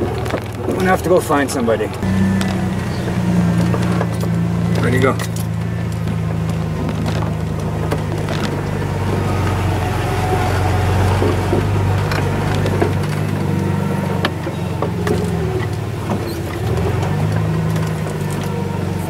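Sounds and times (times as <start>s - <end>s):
clicks and rattles: 0.0s - 19.0s
truck engine running: 0.0s - 19.0s.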